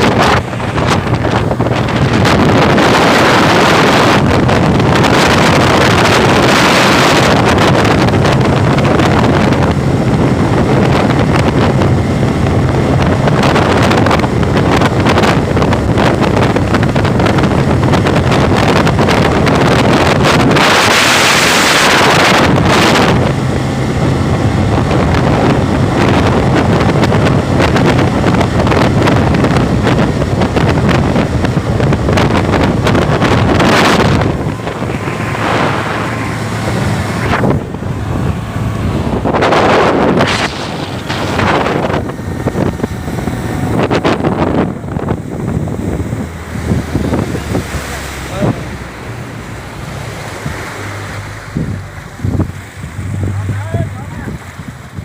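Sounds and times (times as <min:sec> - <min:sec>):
boat engine running: 0:00.0 - 0:55.0
wind buffeting microphone: 0:00.0 - 0:55.0.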